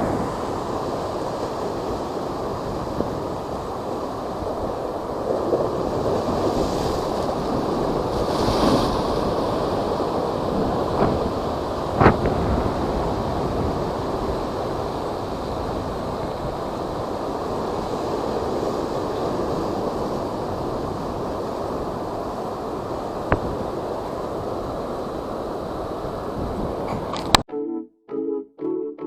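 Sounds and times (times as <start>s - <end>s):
high surf rushing: 0.0s - 26.9s
wind buffeting microphone: 0.0s - 27.4s.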